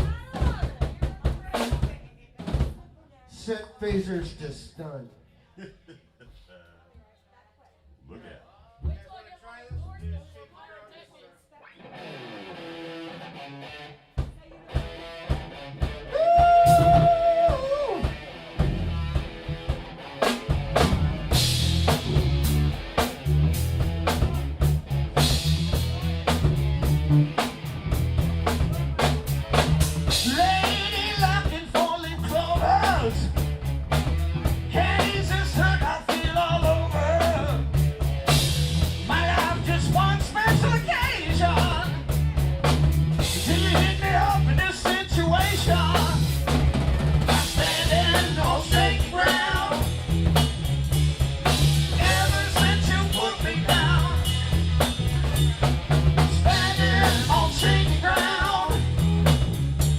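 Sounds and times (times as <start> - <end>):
bass and guitar: 0.0 - 2.0, 8.8 - 10.4, 11.8 - 59.9
drum kit beat: 0.0 - 4.6, 14.0 - 59.9.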